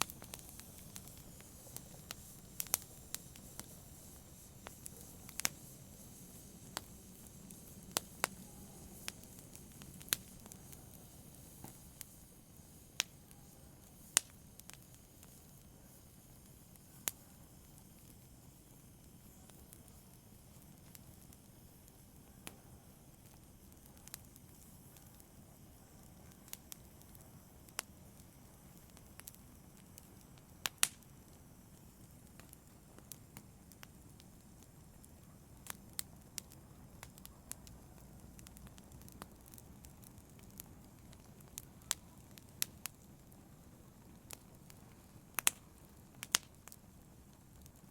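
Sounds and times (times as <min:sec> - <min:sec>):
fire crackling and popping: 0:00.0 - 0:47.9
hiss of burning fire: 0:00.0 - 0:47.9.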